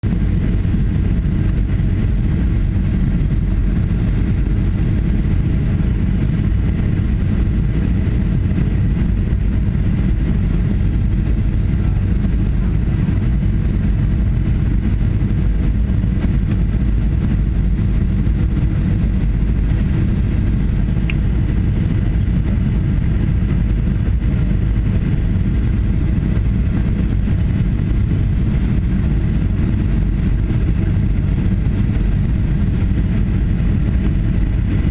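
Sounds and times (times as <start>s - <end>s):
airplane cabin engine rumble: 0.0s - 34.9s
faint steady whine: 0.0s - 34.9s.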